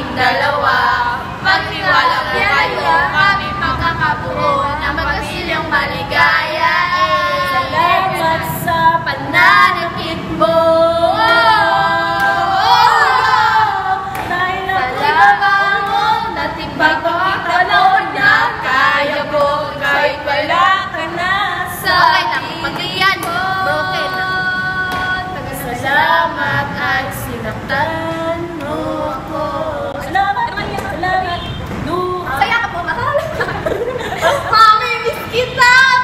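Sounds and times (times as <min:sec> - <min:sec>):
women singing together: 0:00.0 - 0:36.0.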